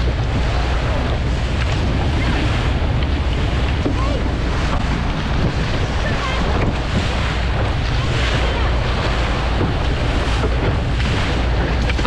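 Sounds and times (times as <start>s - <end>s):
boat engine droning: 0.0s - 12.0s
water rushing past hull: 0.0s - 12.0s
wind buffeting microphone: 0.0s - 12.0s.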